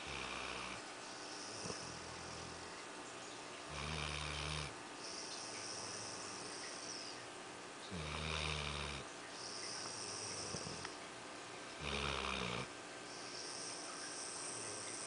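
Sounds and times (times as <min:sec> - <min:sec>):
dog snoring: 0:00.0 - 0:02.8, 0:03.7 - 0:07.2, 0:07.9 - 0:11.0, 0:11.8 - 0:15.0
soft hissing breath: 0:00.0 - 0:02.9, 0:03.7 - 0:07.2, 0:07.9 - 0:11.0, 0:12.4 - 0:15.0.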